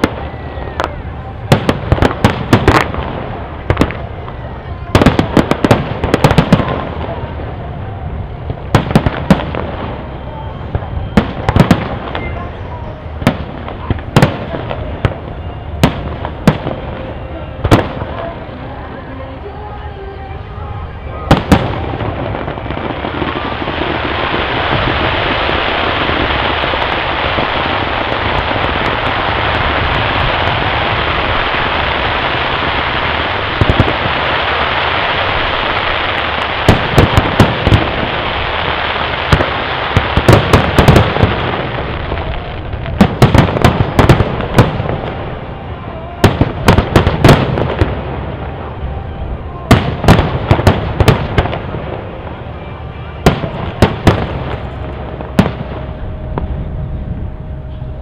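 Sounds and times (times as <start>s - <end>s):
fireworks hiss and crackle: 0.0s - 56.7s.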